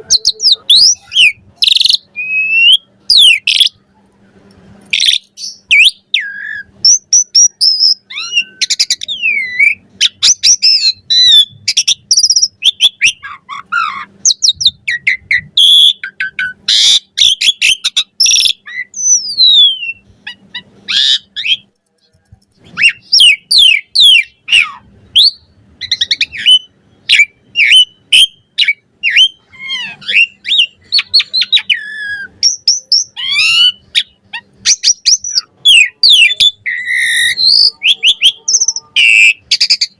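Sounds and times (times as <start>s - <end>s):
starling singing: 0.0s - 3.8s, 4.9s - 39.9s.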